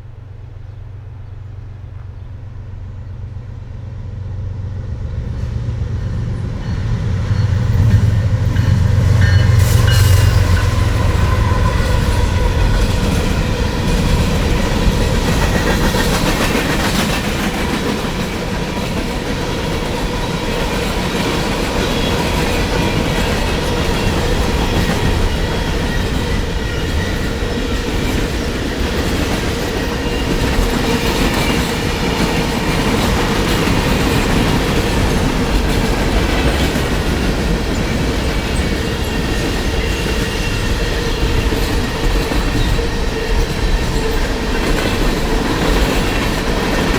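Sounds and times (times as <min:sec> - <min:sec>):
train rumbling past: 0:00.0 - 0:46.9
wheels clattering over rail joints: 0:07.4 - 0:46.9.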